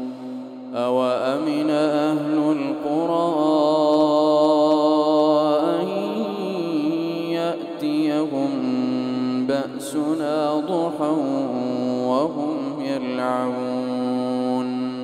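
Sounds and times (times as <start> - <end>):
man reciting melodically: 0.7 - 15.0.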